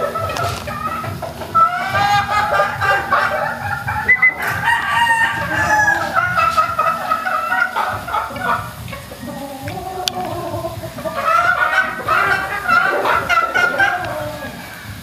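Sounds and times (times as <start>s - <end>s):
chickens clucking: 0.0s - 15.0s
roosters crowing: 0.0s - 15.0s.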